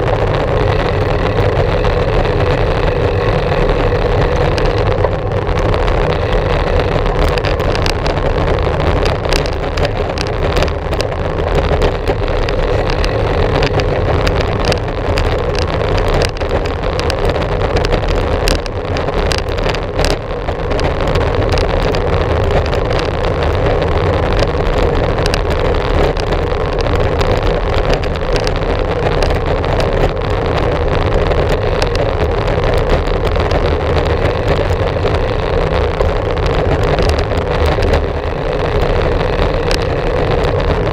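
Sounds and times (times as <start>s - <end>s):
bicycle tyres rolling on trail: 0.0s - 40.9s
small clicks and rattles: 0.0s - 40.9s
wind on microphone: 0.0s - 40.9s.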